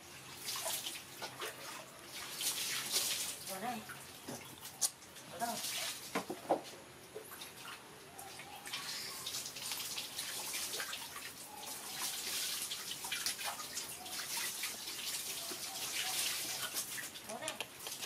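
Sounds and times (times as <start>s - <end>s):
water pouring and splashing: 0.0s - 18.0s.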